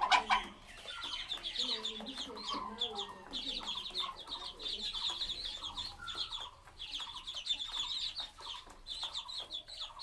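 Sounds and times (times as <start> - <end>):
ducklings peeping: 0.0 - 10.0.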